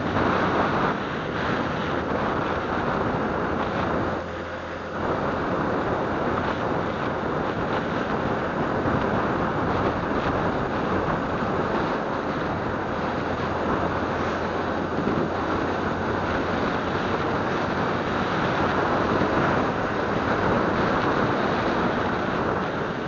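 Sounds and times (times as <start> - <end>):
motorcycle engine: 0.0 - 23.0
road noise: 0.0 - 23.0
wind rushing over microphone: 0.0 - 23.0.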